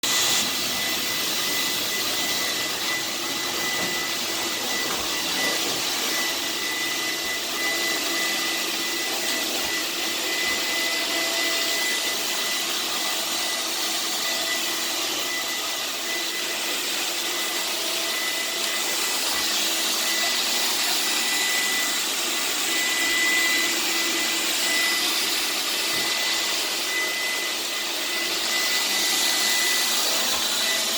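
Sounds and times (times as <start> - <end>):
vacuum cleaner running: 0.0 - 30.9.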